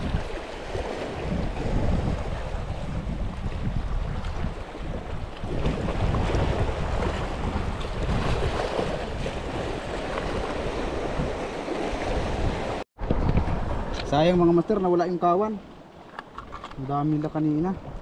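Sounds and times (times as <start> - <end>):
wind buffeting microphone: 0.0 - 14.9
waves splashing against rocks: 0.0 - 18.0.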